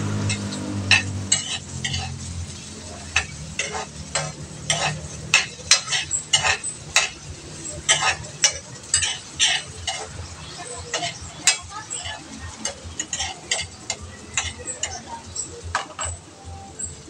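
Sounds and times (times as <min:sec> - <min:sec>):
metal spatula scraping a wok: 0:00.0 - 0:16.3
oil sizzling: 0:00.0 - 0:17.0.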